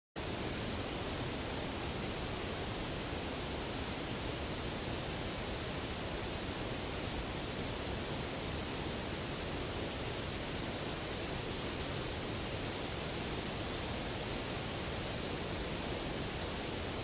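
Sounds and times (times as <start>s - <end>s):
steady hiss: 0.2s - 17.0s.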